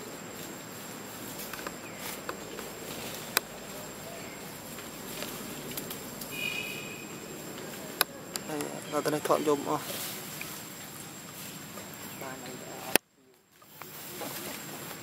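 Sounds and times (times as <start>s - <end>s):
dry leaves rustling and clicking: 0.0s - 15.0s
insect hum: 0.0s - 15.0s.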